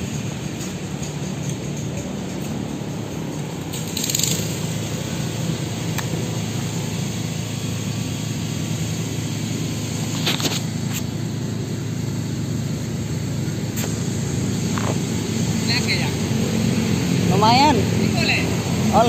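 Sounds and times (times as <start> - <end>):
low mechanical rumble: 0.0 - 19.0.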